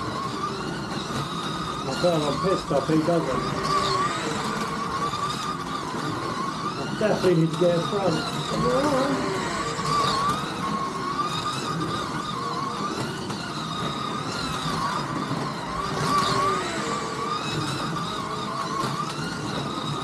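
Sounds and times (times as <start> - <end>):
slot car motors whining: 0.0 - 20.0.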